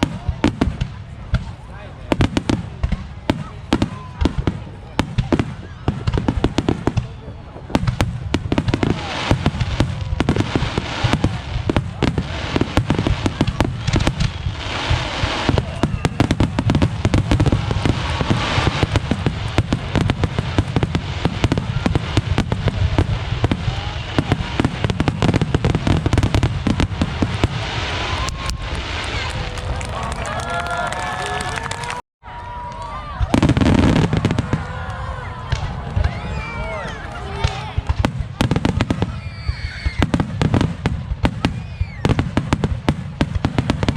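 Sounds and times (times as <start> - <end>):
fireworks bursting: 0.0 - 32.0, 32.8 - 43.9
fireworks crackle: 0.0 - 32.0, 32.6 - 43.9.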